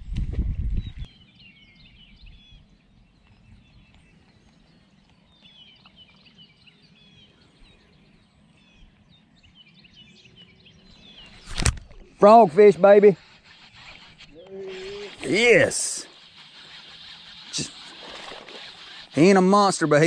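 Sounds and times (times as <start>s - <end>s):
small birds chirping: 0.7s - 20.0s.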